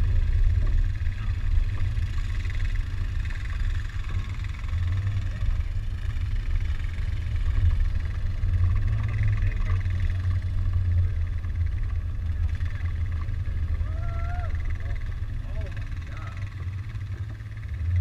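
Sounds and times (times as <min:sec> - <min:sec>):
deep engine rumble: 0:00.0 - 0:18.0.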